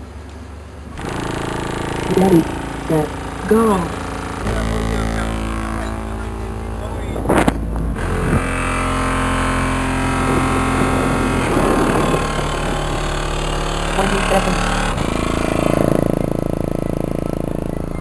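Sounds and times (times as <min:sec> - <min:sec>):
muffled mid-range rumble: 0:00.0 - 0:18.0
subwoofer deep bass tone: 0:00.7 - 0:18.0.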